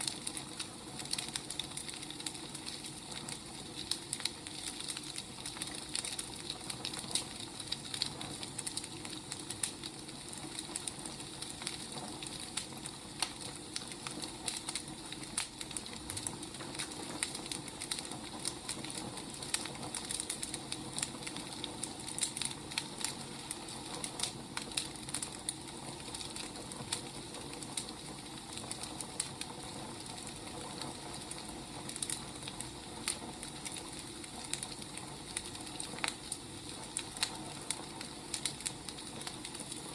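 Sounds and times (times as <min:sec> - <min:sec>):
fire soft hiss: 0:00.0 - 0:39.9
firewood crackling and snapping: 0:00.0 - 0:39.9.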